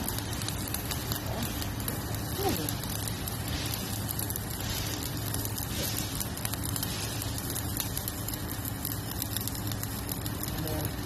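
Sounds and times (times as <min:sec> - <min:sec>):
constant low hum: 0:00.0 - 0:11.0
welding arc crackling: 0:00.0 - 0:11.0.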